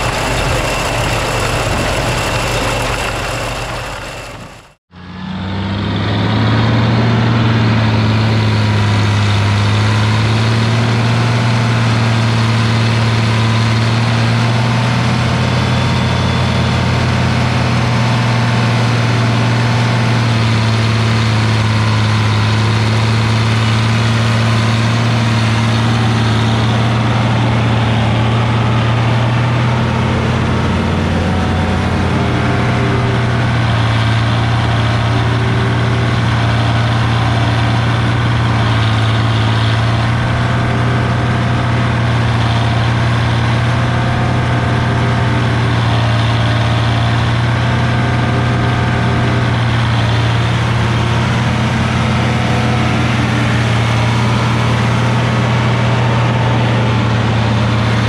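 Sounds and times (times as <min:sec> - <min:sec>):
farm machinery engine running: 0:00.0 - 0:58.0.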